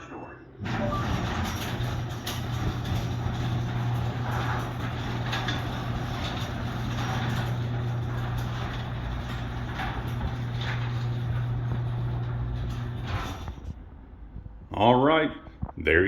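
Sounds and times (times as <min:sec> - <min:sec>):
garage door opener motor hum: 0:00.6 - 0:14.2
door clicks and rattles: 0:00.7 - 0:13.8.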